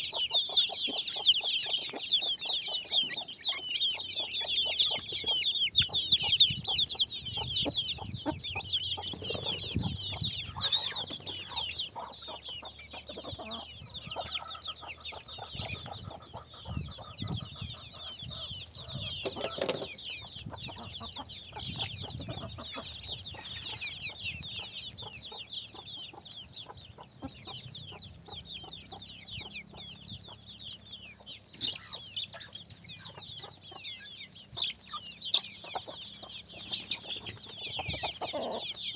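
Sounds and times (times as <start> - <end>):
chicken clucks: 0.0 - 38.9
chicks peeping: 0.0 - 38.9.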